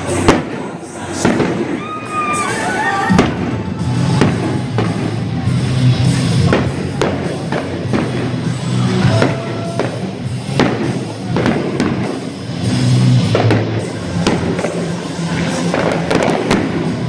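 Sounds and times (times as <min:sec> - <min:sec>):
fireworks bangs and cracks: 0:00.0 - 0:17.0
loud music with steady beat: 0:00.0 - 0:17.0.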